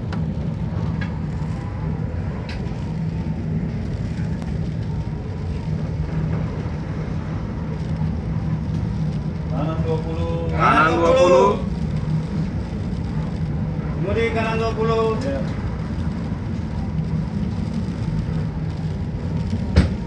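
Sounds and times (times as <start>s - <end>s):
ship engines droning: 0.0s - 20.0s.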